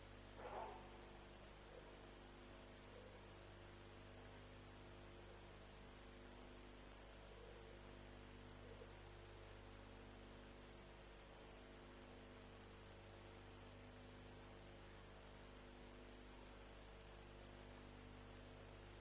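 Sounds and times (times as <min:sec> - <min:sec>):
electrical hum: 0:00.0 - 0:19.0
faint hiss: 0:00.0 - 0:19.0.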